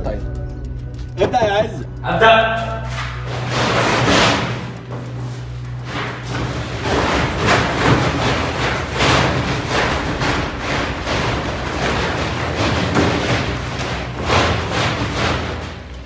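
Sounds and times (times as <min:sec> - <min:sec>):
background music: 0:00.0 - 0:16.0
inflatable pool thudding and rubbing: 0:02.9 - 0:16.0.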